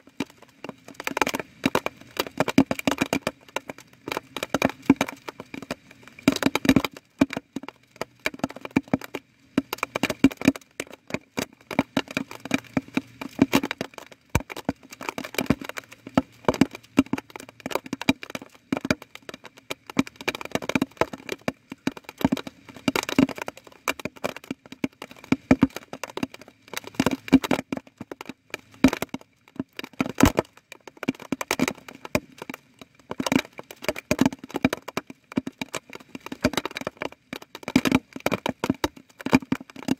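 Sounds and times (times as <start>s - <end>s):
raindrops tapping on hard surface: 0.0s - 39.9s.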